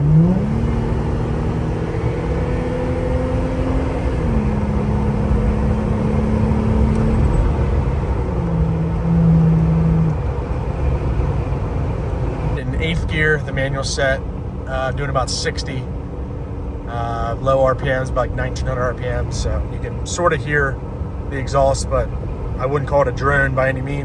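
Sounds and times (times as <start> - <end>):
car exhaust accelerating from inside cab: 0.0 - 24.0.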